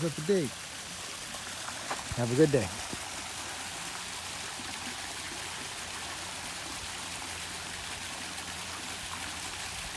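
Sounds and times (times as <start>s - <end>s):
pond waterfall trickling: 0.0s - 9.9s.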